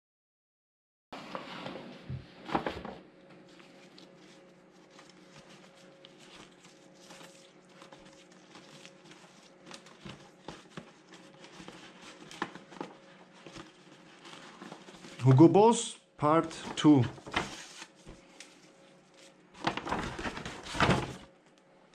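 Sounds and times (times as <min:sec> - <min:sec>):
paper bag rustling and crinkling: 0:02.4 - 0:15.5, 0:16.2 - 0:21.4.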